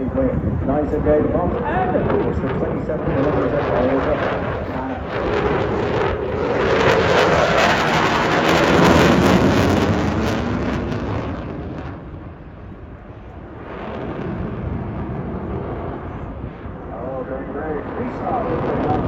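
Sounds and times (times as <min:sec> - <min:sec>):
jet engines passing: 0:00.0 - 0:19.0.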